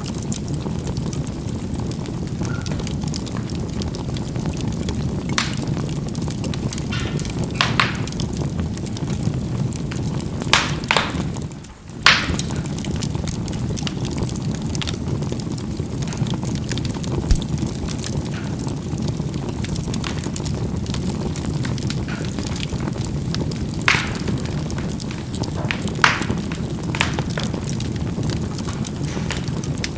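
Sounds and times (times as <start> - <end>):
charcoal fire rumbling: 0.0 - 29.9
coals cracking in sharp pops: 0.0 - 29.9.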